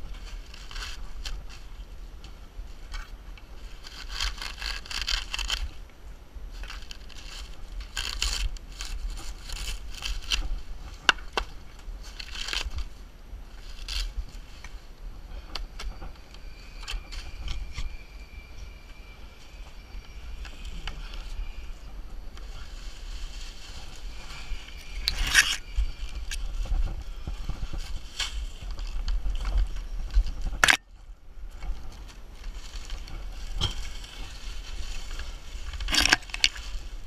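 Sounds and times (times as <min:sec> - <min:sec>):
dry palm fronds crackling: 0:00.0 - 0:37.0.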